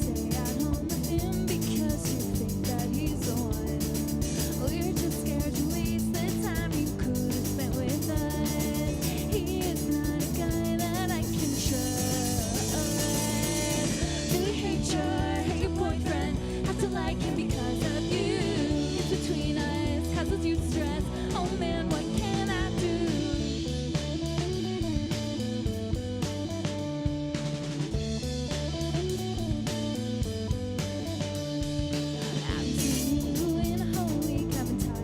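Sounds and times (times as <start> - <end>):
punk band playing: 0.0 - 35.0.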